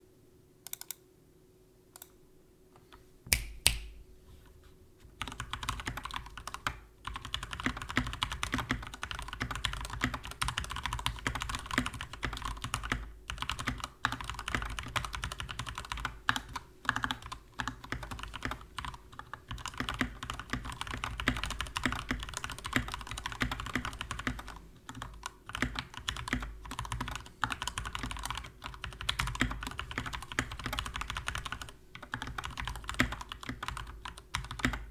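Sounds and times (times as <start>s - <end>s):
mechanical keyboard typing: 0.6s - 1.0s, 5.2s - 34.9s.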